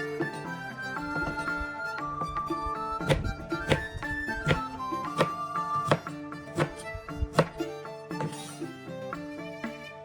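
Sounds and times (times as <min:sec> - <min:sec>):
traditional instrumental music: 0:00.0 - 0:10.0.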